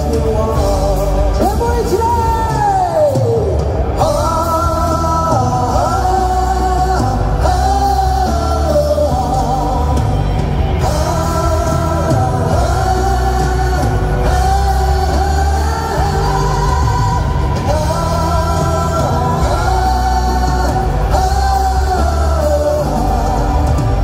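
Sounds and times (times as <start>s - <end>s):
live rock band playing: 0.0s - 24.0s
person singing: 0.0s - 24.0s.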